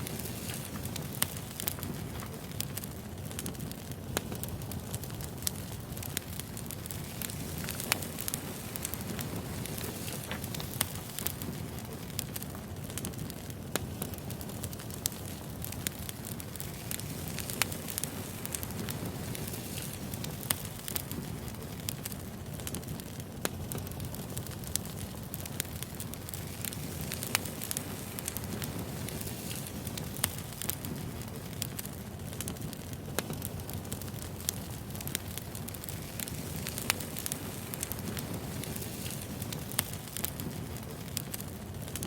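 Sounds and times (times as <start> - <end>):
low rumble of flame: 0.0 - 42.0
wood fire crackling and popping: 0.0 - 42.0.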